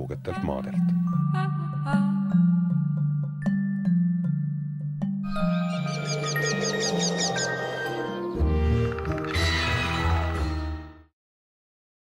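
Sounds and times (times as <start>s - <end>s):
sustained background music: 0.0s - 11.1s.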